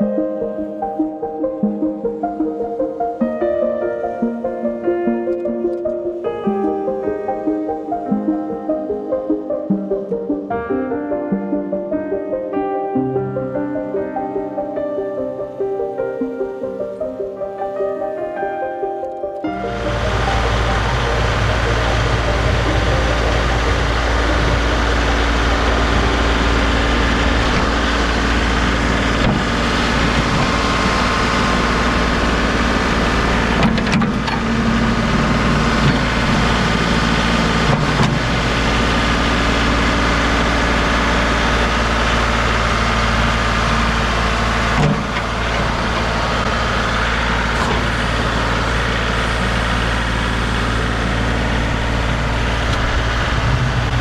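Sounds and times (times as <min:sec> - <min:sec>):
tractor engine running: 0:00.0 - 0:12.3, 0:16.8 - 0:54.0.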